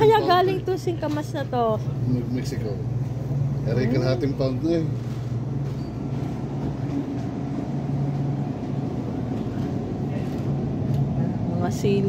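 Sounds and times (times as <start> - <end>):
refrigerated display cases droning: 0.0 - 12.0.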